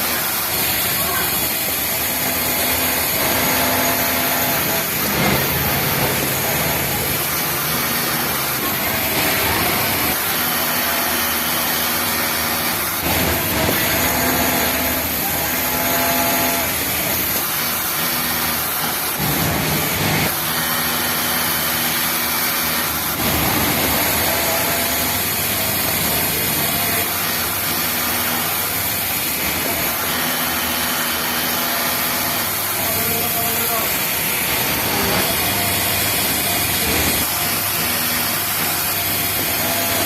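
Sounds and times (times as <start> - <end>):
sewing machine motor humming: 0.0 - 40.0.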